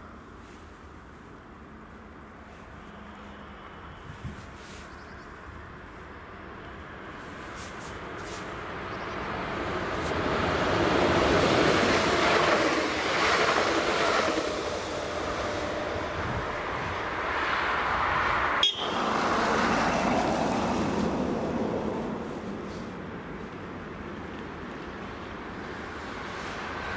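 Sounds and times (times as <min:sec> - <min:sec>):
passenger train passing: 0:00.0 - 0:26.9
passing vehicle noise: 0:01.6 - 0:26.9.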